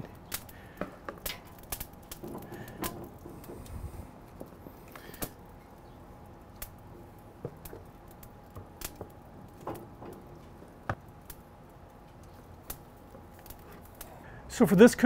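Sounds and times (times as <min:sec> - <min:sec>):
grill fire crackling: 0:00.0 - 0:15.0
steaks set on grill grate: 0:00.0 - 0:15.0.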